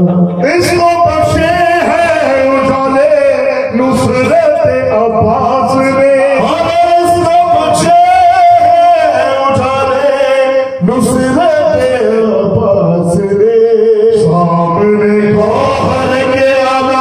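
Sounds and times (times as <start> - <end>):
men singing into microphones: 0.0 - 17.0.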